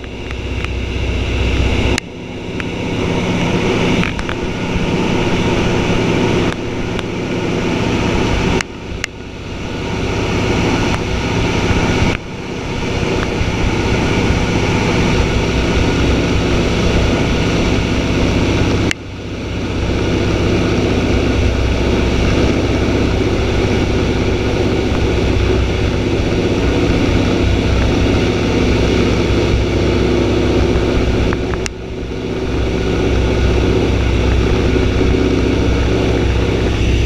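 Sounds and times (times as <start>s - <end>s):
floatplane engine and propeller: 0.0s - 37.0s.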